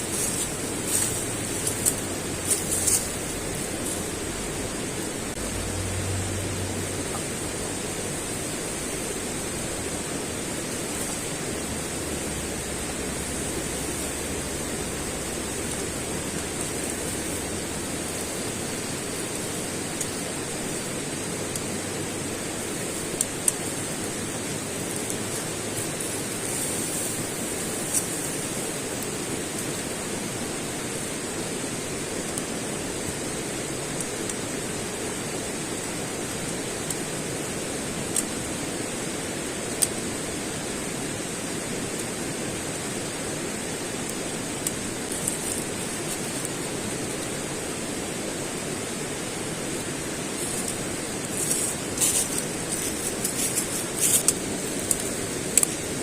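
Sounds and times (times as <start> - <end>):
rushing outdoor noise: 0.0 - 56.0.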